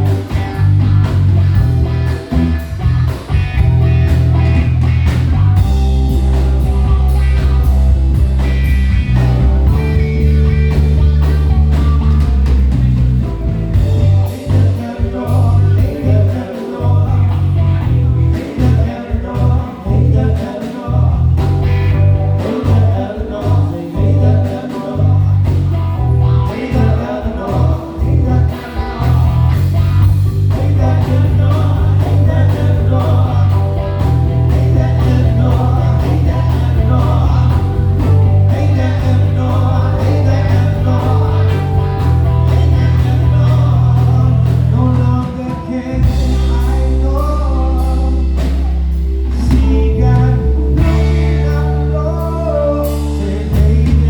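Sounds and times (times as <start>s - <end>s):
bass guitar: 0.0s - 54.0s
drum kit: 0.0s - 54.0s
keyboard: 0.0s - 54.0s.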